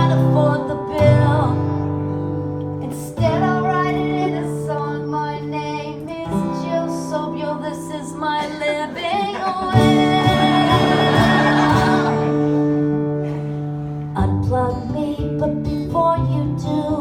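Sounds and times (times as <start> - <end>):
woman singing: 0.0 - 12.5, 14.1 - 17.0
acoustic guitar strumming: 0.0 - 16.3.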